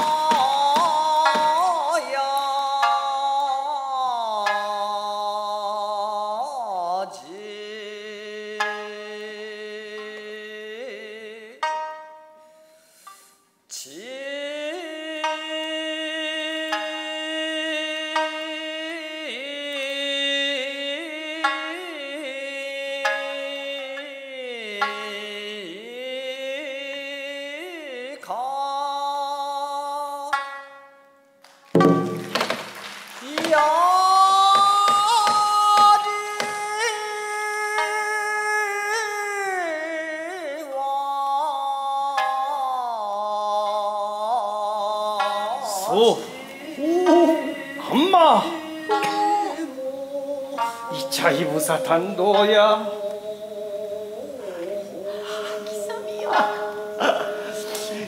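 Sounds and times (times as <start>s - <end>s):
classical stage music ensemble: 0.0s - 58.0s.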